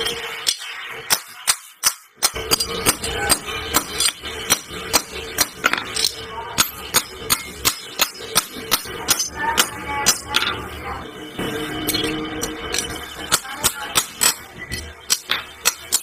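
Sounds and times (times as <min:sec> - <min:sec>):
hammer striking steel on anvil: 0:00.1 - 0:10.7, 0:11.4 - 0:16.0.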